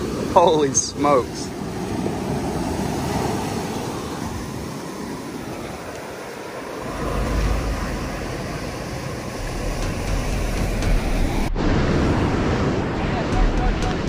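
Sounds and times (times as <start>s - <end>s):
ocean surf breaking: 0.0s - 14.0s
wind rumbling on microphone: 1.4s - 14.0s.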